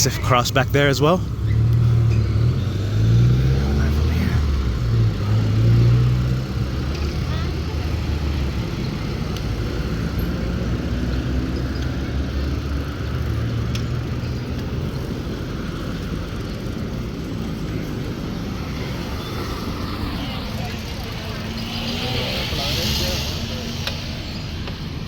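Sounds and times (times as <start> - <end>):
motor traffic: 0.0 - 25.0.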